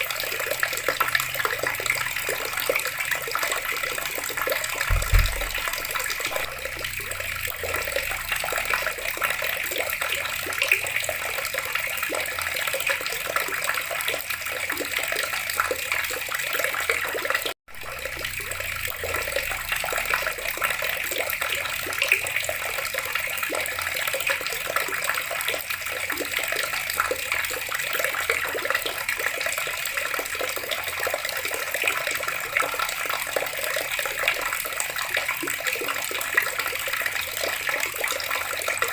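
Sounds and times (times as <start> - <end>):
water running from a tap: 0.0 - 38.9.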